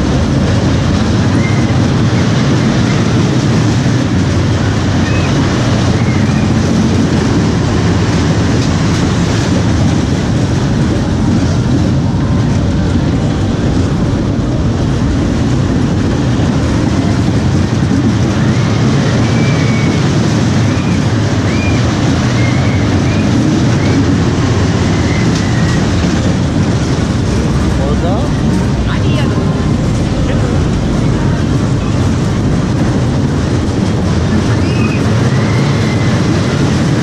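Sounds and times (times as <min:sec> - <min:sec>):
roller coaster wheels rumbling: 0:00.0 - 0:37.0.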